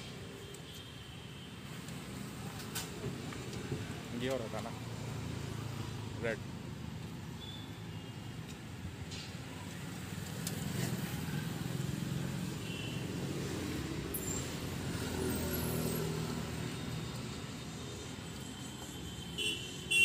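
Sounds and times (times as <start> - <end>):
steady road hum: 0.0 - 20.0.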